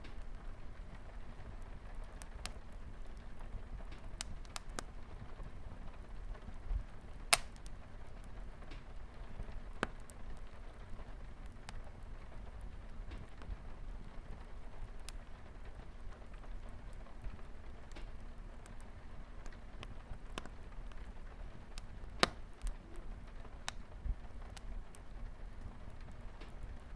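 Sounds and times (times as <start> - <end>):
wood fire crackling: 0.0 - 26.9.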